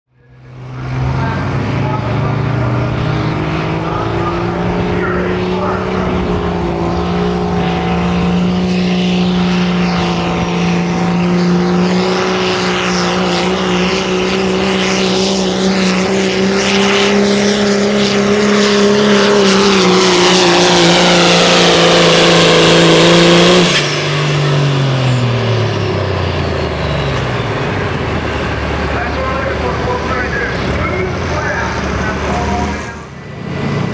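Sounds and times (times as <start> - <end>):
truck engine revving hard: 0.2 - 33.9.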